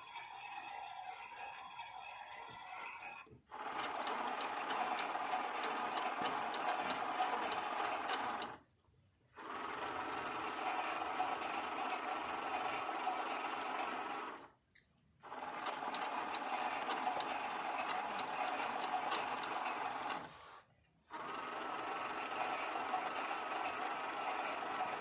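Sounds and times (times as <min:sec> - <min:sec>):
small electric motor whirring: 0:00.0 - 0:08.6, 0:09.3 - 0:14.6, 0:15.2 - 0:25.0.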